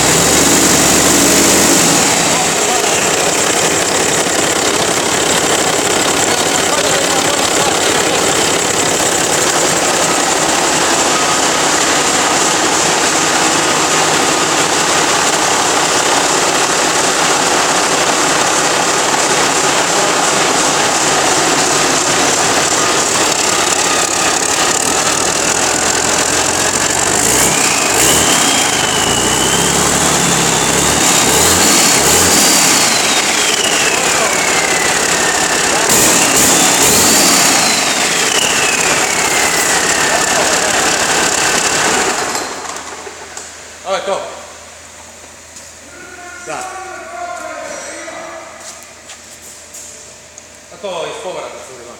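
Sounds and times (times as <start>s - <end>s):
diesel engine running and revving: 0.0s - 43.4s.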